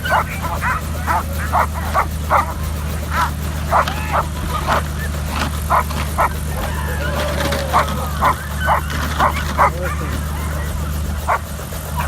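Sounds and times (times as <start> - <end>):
dog barking: 0.0 - 12.0
helicopter droning: 0.0 - 12.0.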